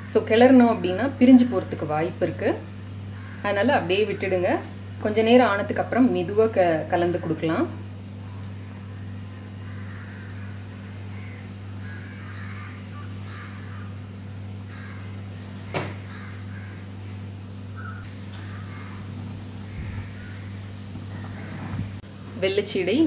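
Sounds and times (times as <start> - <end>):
low constant hum: 0.0 - 23.0.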